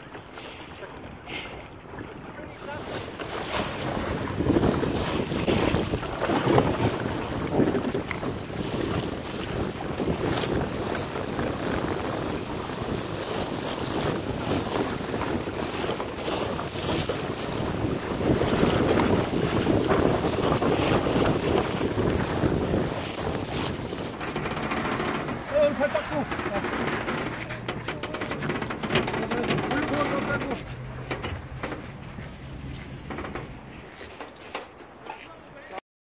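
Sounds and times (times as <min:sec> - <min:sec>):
wind buffeting microphone: 0:00.0 - 0:35.0
water rushing along boat bow: 0:00.0 - 0:35.8.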